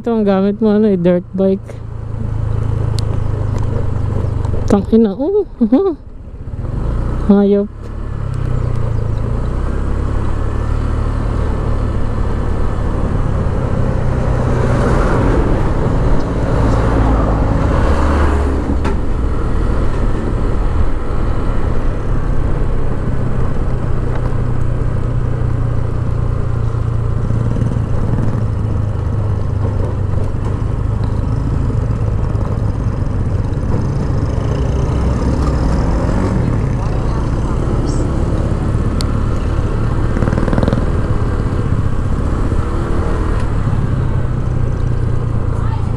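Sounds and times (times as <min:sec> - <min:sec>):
road noise: 0:00.0 - 0:45.9
scooter engine drone: 0:00.0 - 0:45.9.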